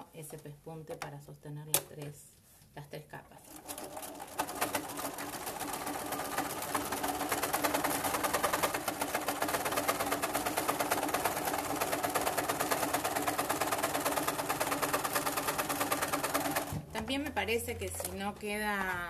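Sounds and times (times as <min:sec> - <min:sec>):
sewing machine stitching: 0:03.4 - 0:19.0.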